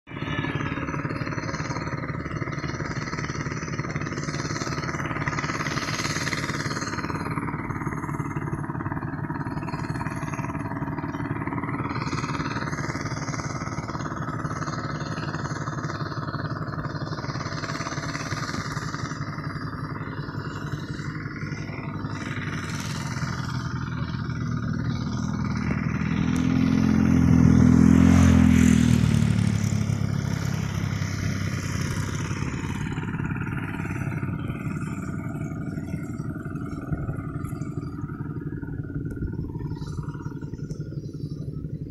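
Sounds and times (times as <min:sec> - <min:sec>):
outdoor background hum: 0:00.0 - 0:41.9
motor vehicle passing: 0:00.1 - 0:41.9.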